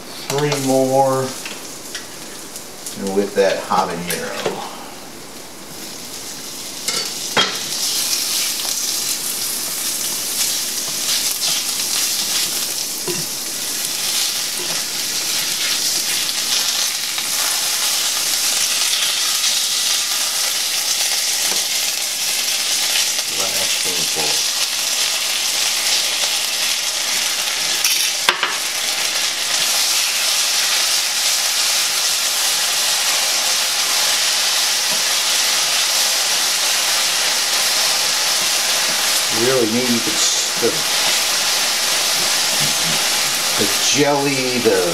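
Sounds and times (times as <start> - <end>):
chicken wings sizzling in skillet: 0.1 - 44.9.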